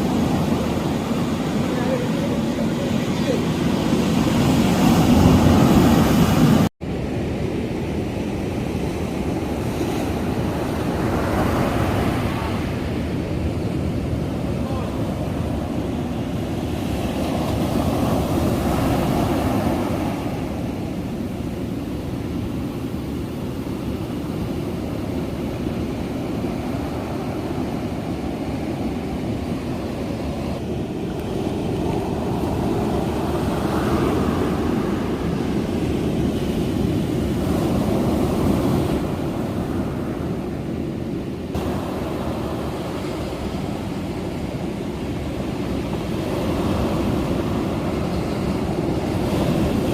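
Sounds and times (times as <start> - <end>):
ocean surf: 0.0 - 49.9
wind: 0.0 - 49.9.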